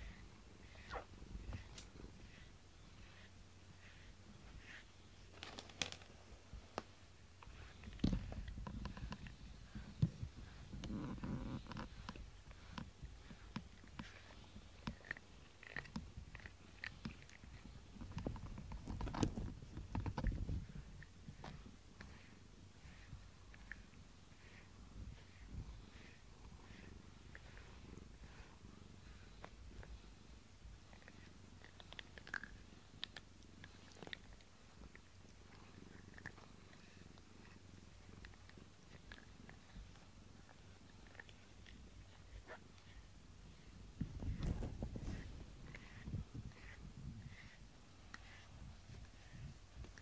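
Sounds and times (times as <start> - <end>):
brush on cat fur: 0.0 - 5.4, 6.2 - 50.0.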